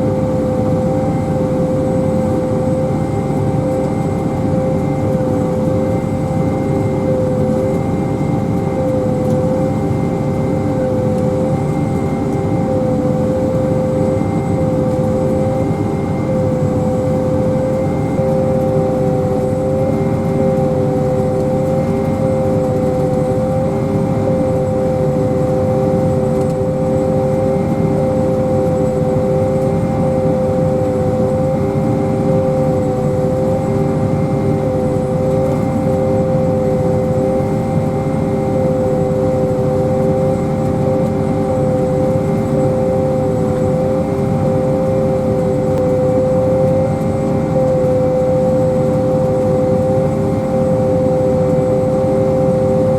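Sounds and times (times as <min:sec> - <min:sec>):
engine drone: 0:00.0 - 0:52.9
steady machine whine: 0:00.0 - 0:52.9.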